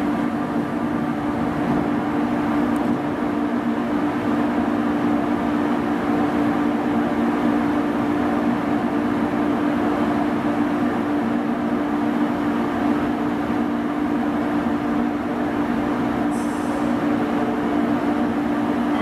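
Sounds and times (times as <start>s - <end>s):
electric train equipment humming: 0.0s - 19.0s.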